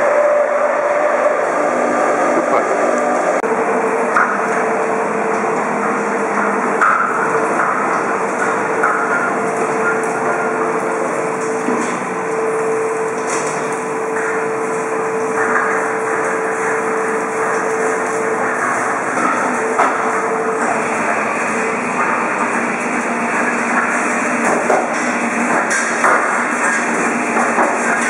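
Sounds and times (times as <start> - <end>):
machinery hum: 0.0 - 28.0.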